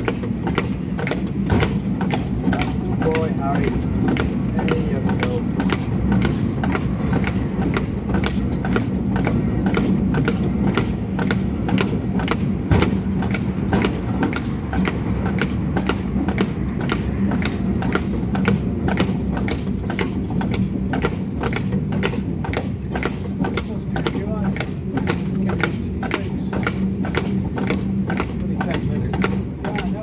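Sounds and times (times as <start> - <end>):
horse hooves clip-clopping: 0.0 - 30.0
tram wheels rolling on rails: 0.0 - 30.0.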